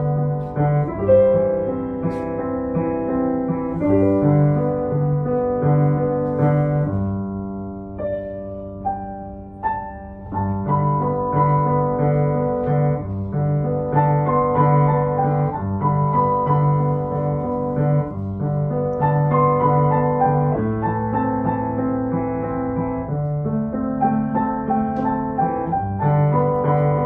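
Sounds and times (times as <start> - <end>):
grand piano playing: 0.0 - 27.0.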